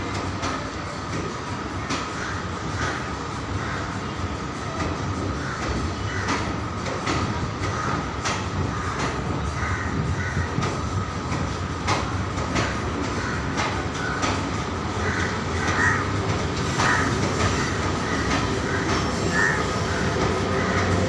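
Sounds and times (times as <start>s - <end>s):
train rumbling on rails: 0.0s - 21.0s
wheels clicking over rail joints: 0.0s - 21.0s.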